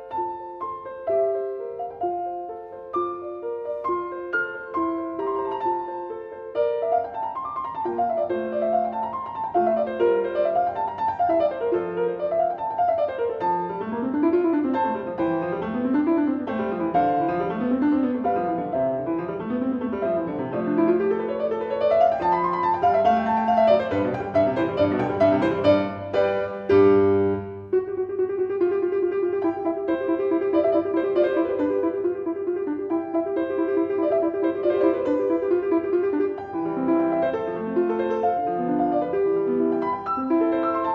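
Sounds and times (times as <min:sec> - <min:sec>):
piano music with arpeggios: 0:00.0 - 0:40.9.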